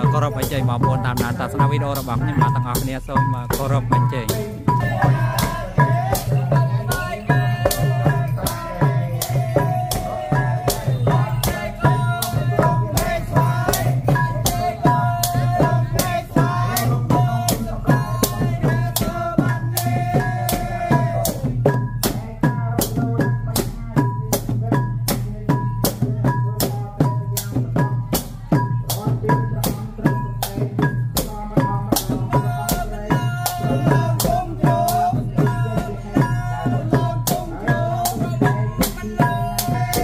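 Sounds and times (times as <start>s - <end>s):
drums and rattling percussion: 0.0s - 40.0s.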